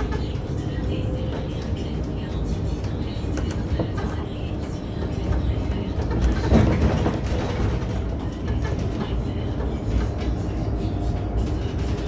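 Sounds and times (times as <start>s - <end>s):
bus road rumble: 0.0s - 12.0s.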